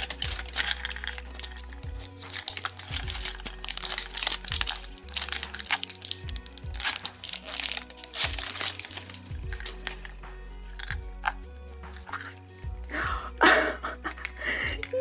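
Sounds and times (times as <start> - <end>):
plastic wrapper crinkling: 0.0 - 13.0, 14.0 - 14.9
background music: 0.0 - 15.0.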